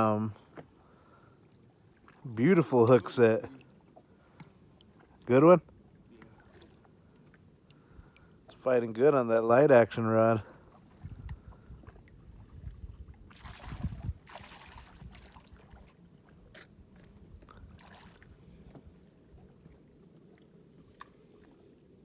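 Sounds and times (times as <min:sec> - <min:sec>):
water splashing around boat: 0:00.0 - 0:22.0
low rumble of wind: 0:03.0 - 0:22.0.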